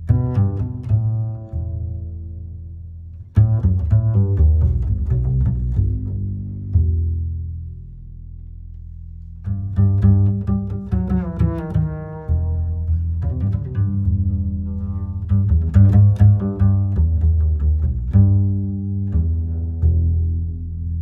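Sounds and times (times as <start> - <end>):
low strings music: 0.0 - 21.0.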